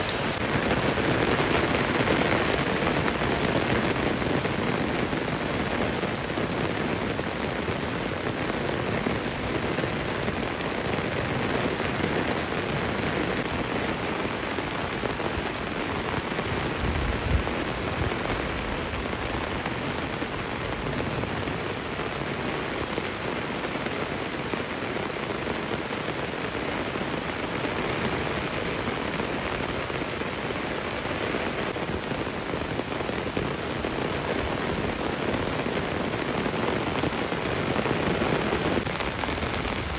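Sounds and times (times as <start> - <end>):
heavy rain on crops and trees: 0.0 - 39.9.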